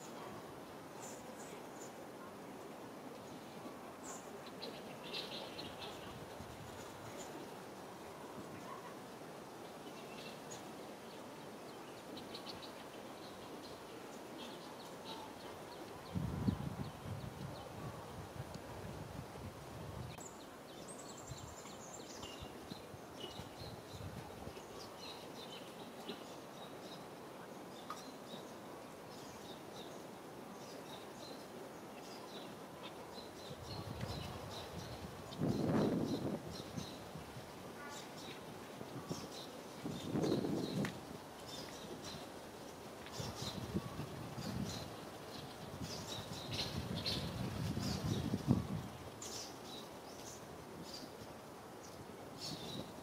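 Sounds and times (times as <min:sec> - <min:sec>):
steady low hiss: 0:00.0 - 0:53.0
small birds chirping: 0:03.1 - 0:07.7, 0:08.3 - 0:18.0, 0:20.0 - 0:53.0.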